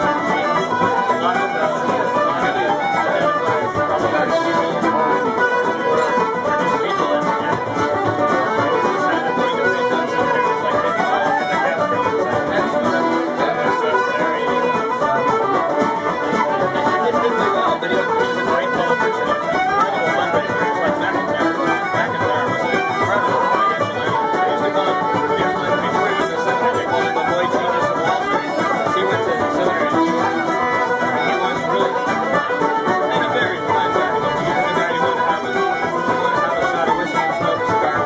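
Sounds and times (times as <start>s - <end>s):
frame drum beat: 0.0s - 38.0s
other instruments playing: 0.0s - 38.0s
squeezebox playing brisk tune: 0.0s - 38.0s.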